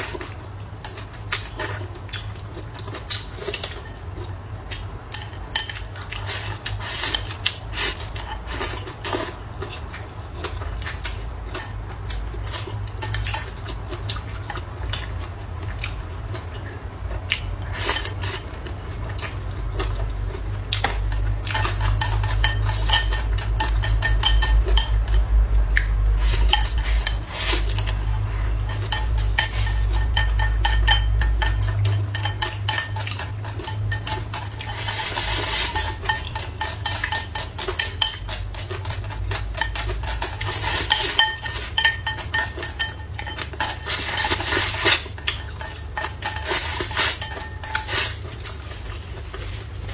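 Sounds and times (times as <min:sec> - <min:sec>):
utensils clinking against bowls: 0:00.0 - 0:15.2, 0:17.6 - 0:49.9.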